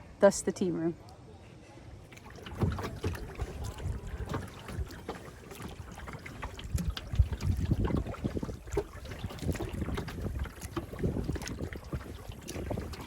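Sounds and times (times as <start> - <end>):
paddle splashing water: 2.0 - 13.0.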